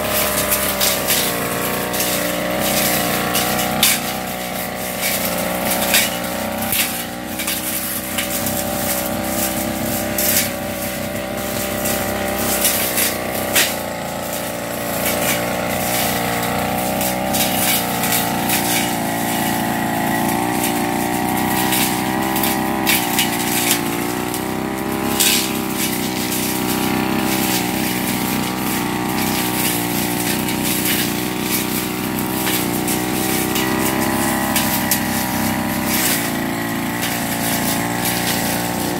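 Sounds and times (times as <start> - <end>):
brush cutter engine running: 0.0 - 38.9
cutting head clicking on weeds: 0.0 - 38.9.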